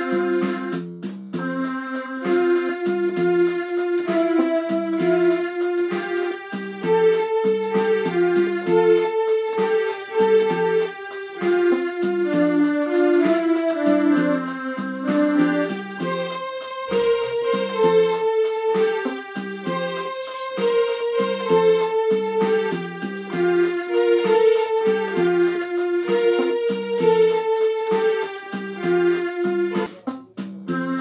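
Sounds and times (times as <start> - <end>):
electronic keyboard melody: 0.0 - 31.0.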